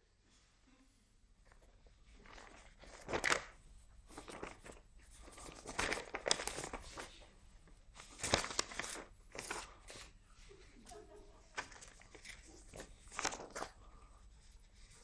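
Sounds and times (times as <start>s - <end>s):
paper rustling and crinkling: 1.4s - 10.8s, 11.4s - 15.0s.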